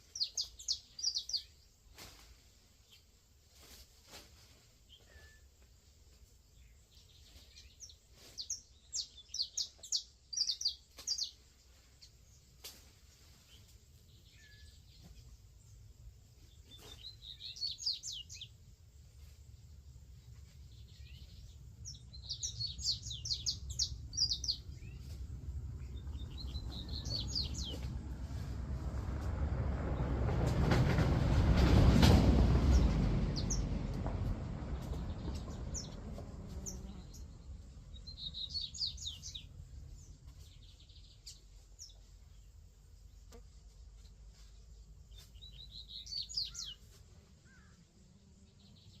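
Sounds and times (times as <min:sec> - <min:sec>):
songbird chirping trills: 0:00.0 - 0:02.0, 0:04.9 - 0:28.6, 0:32.7 - 0:49.0
low rumbling of passing vehicle: 0:06.4 - 0:49.0.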